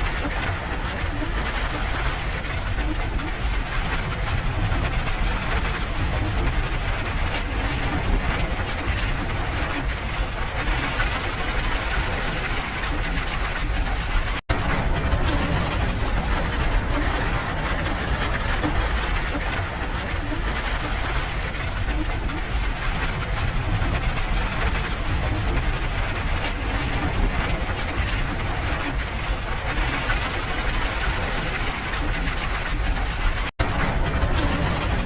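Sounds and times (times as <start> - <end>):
deep rumble: 0.0 - 35.0
steady rain: 0.0 - 35.0.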